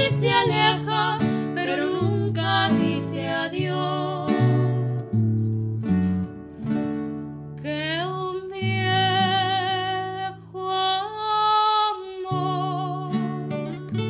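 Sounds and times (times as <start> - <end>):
woman singing with vibrato: 0.0 - 5.5, 7.6 - 13.7
strummed acoustic guitars: 0.0 - 10.4, 12.3 - 14.0.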